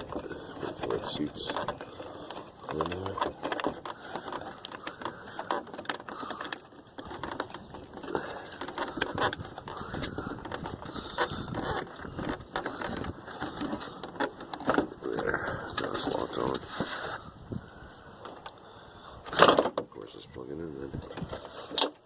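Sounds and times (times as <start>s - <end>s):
plastic parts clicking and scraping: 0.0s - 18.6s, 19.2s - 22.0s.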